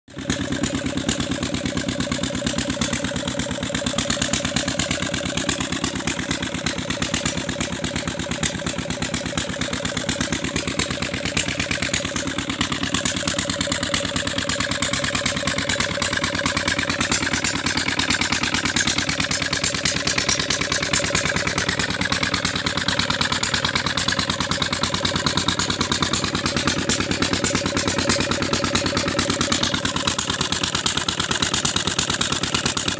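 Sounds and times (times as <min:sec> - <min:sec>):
engine running steadily: 0:00.1 - 0:32.9.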